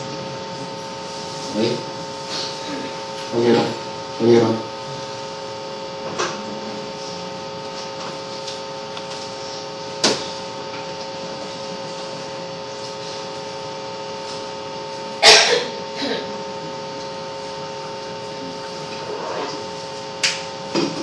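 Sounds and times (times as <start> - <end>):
microphone hiss and hum: 0.0 - 21.0.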